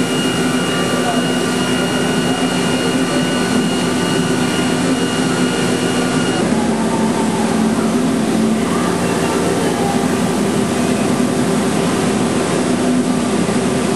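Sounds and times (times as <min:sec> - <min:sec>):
high machine whine: 0:00.0 - 0:13.9
machine mechanical drone: 0:00.0 - 0:13.9.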